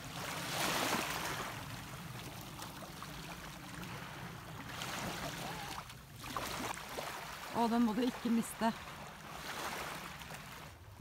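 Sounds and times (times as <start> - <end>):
seawater lapping and trickling: 0.0 - 11.0.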